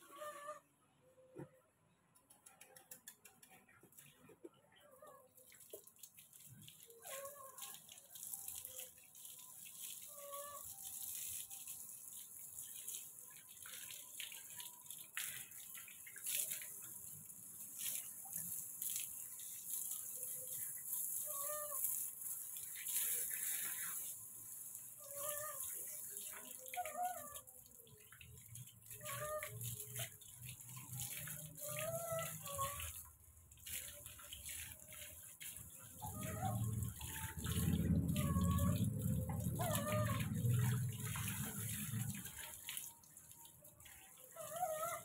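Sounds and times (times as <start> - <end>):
hose water splashing: 2.4 - 45.0.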